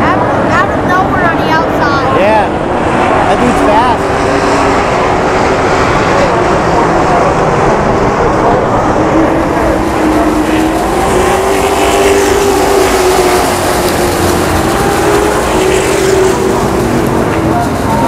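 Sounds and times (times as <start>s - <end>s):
racing truck engines roaring: 0.0s - 18.0s.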